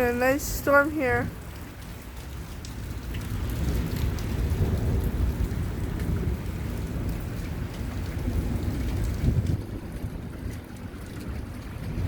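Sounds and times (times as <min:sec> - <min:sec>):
heavy rain pouring: 0:00.0 - 0:12.0
low rumble of thunder: 0:01.2 - 0:12.0.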